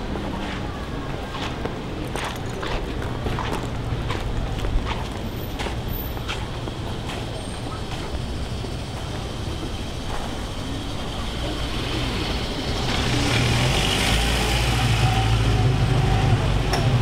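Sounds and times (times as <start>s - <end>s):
van engine hum: 3.1s - 17.0s.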